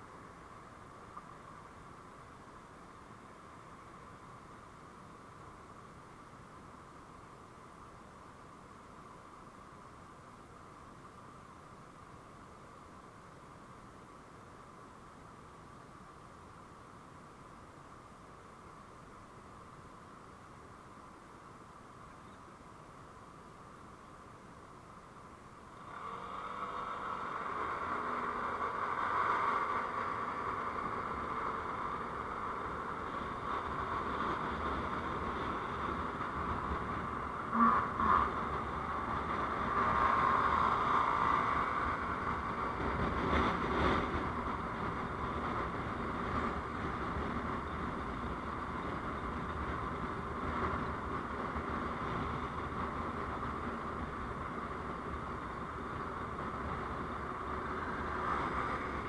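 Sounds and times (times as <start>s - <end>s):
vehicle road noise: 0.0s - 59.0s.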